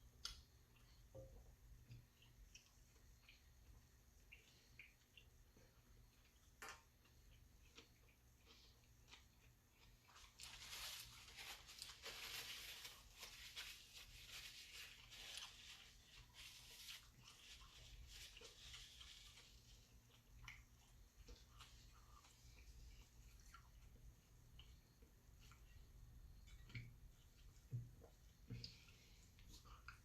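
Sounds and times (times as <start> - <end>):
person chewing and crunching: 1.8 - 30.0.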